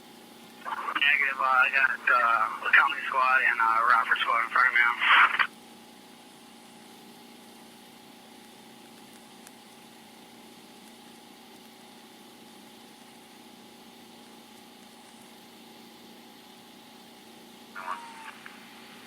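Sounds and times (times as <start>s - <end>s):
faint scanner hum and hiss: 0.0s - 19.0s.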